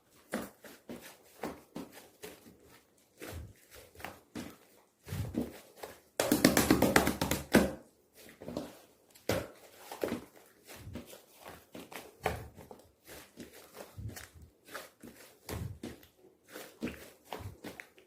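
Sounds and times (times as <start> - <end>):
hands squishing slime: 0.2 - 18.0.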